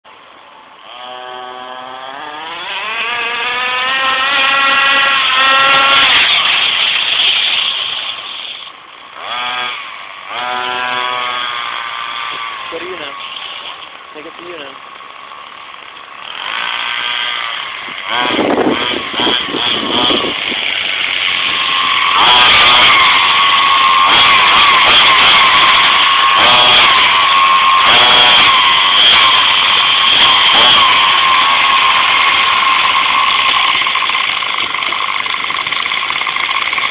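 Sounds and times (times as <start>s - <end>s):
small two-stroke engine revving: 0.7s - 36.9s.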